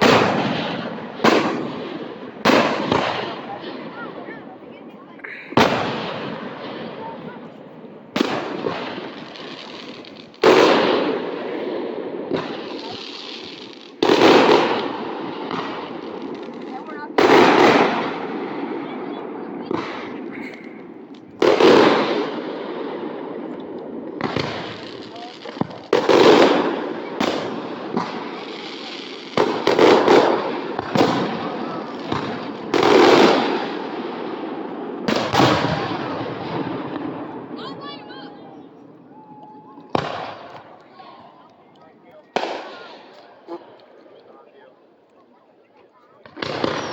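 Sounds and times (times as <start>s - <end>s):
firework booms: 0.0s - 4.6s, 5.3s - 41.4s, 42.3s - 44.0s, 46.2s - 46.9s.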